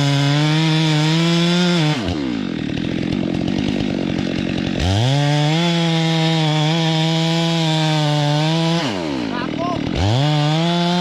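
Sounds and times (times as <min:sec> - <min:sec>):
chainsaw idling and revving: 0:00.0 - 0:11.0.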